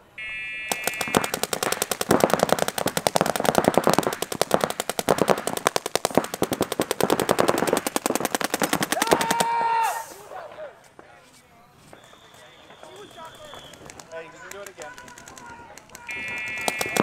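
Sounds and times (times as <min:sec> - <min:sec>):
paintball markers firing rapidly: 0:00.7 - 0:09.6, 0:12.0 - 0:17.0.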